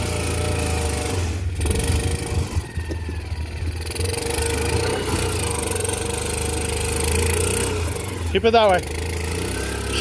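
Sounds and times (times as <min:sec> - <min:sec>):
small engine running under load: 0:00.0 - 0:10.0.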